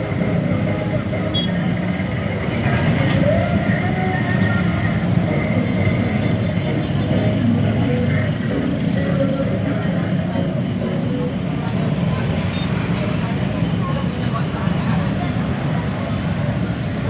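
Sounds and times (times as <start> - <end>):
dense road traffic: 0.0 - 17.0.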